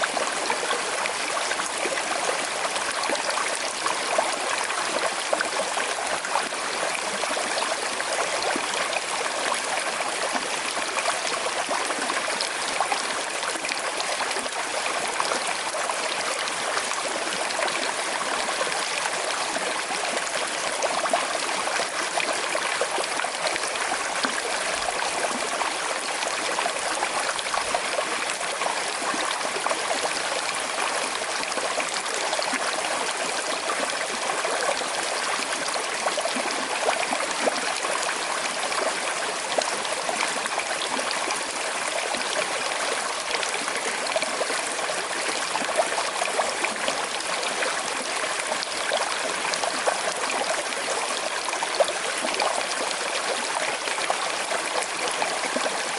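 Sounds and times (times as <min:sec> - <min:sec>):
river flowing over stones: 0:00.0 - 0:55.9
water trickling and gurgling: 0:00.0 - 0:55.9.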